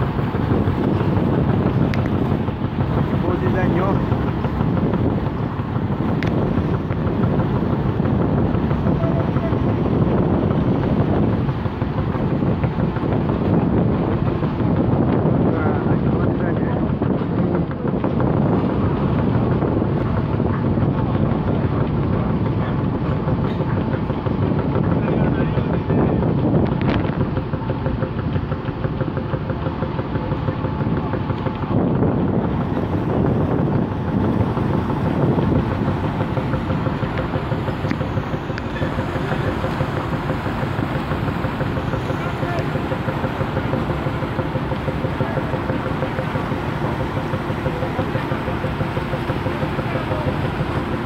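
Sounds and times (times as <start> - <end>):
propellers churning water: 0.0 - 51.0
ship engines rumbling: 0.0 - 51.0
wind noise on microphone: 0.0 - 51.0.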